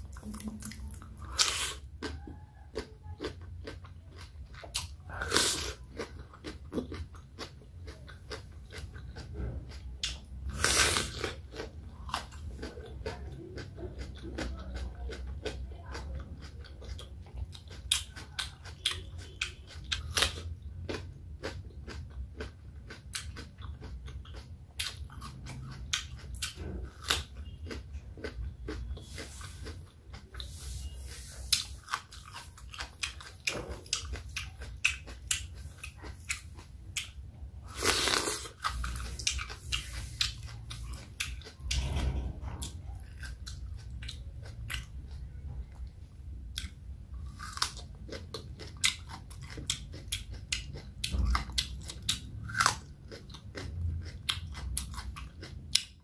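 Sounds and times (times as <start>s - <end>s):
wet chewing mouth sounds: 0.0s - 56.0s.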